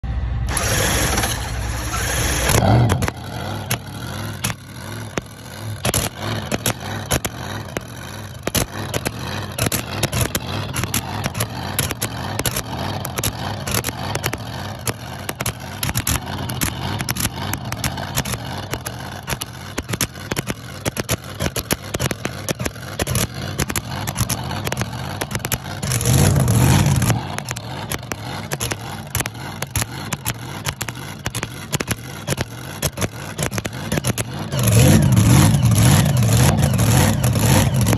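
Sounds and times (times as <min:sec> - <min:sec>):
engine idling roughly with pops: 0:00.1 - 0:37.9.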